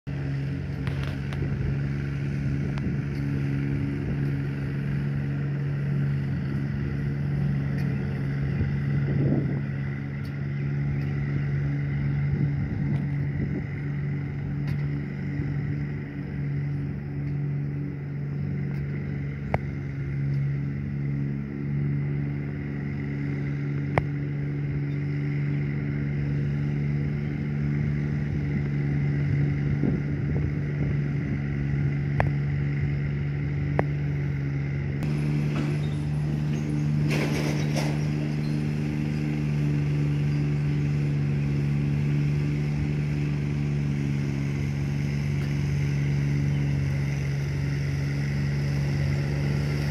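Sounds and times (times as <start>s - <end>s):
motor droning: 0.0s - 49.9s.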